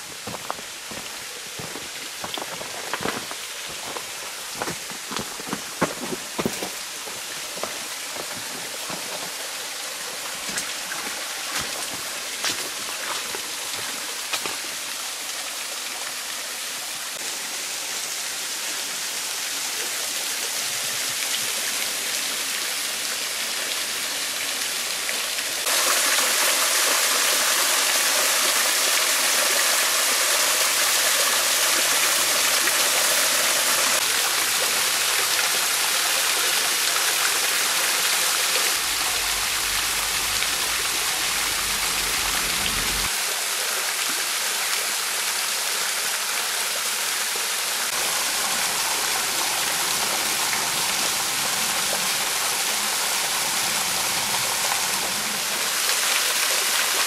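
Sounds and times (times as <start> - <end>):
waterfall splashing into pool: 0.0 - 57.0.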